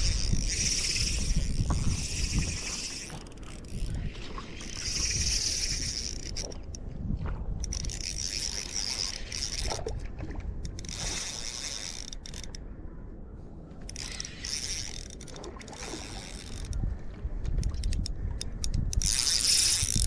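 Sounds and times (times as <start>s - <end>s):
fishing reel whirring and ratcheting: 0.0s - 6.8s, 7.6s - 10.0s, 10.6s - 12.6s, 13.9s - 16.8s, 17.6s - 20.0s.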